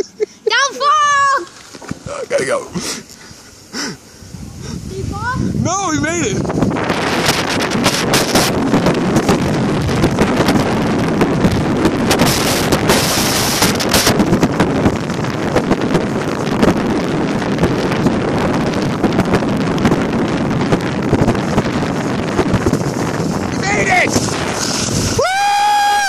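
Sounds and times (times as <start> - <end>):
wind buffeting microphone: 0.0 - 26.0
skis scraping on snow: 1.2 - 5.4, 6.4 - 26.0.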